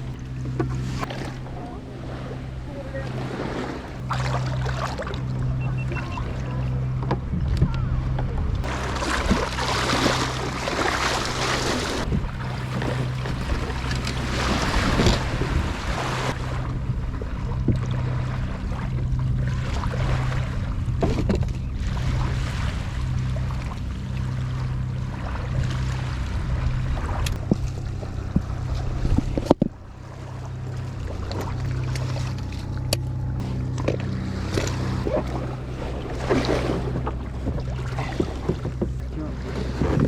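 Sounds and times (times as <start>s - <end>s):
wind on microphone: 0.0s - 23.8s, 24.4s - 40.0s
low hum: 0.0s - 40.0s
water splashing around kayak: 0.0s - 40.0s.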